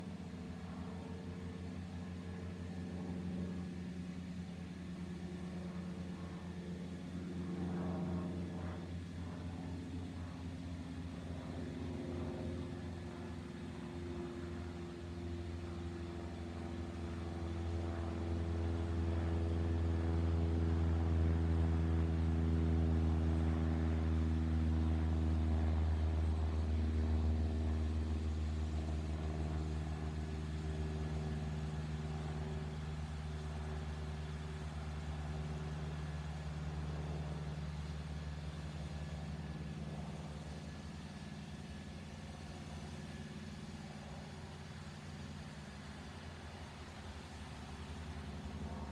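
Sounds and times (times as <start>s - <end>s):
propeller plane flying over: 0.0s - 48.9s.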